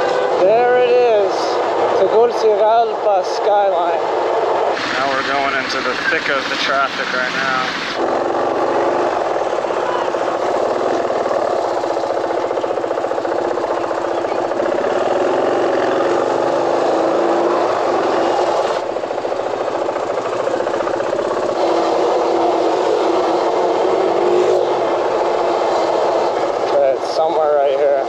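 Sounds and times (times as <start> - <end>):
motorcycle engine running: 4.2 - 28.0.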